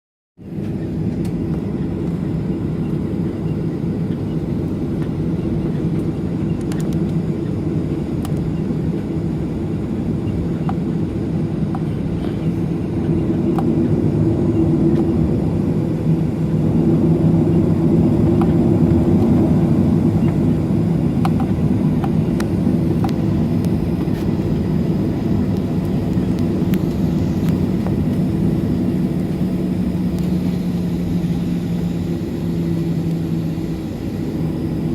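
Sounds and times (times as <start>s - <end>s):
jet engines rumbling in cabin: 0.4s - 34.9s.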